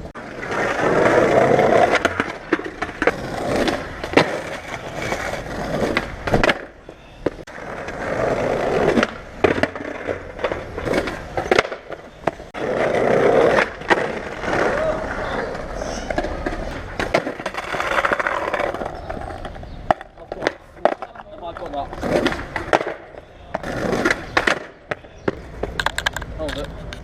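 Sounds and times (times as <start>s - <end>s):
skateboard wheels rolling: 0.0s - 27.0s
skateboard clacking down: 0.2s - 27.0s.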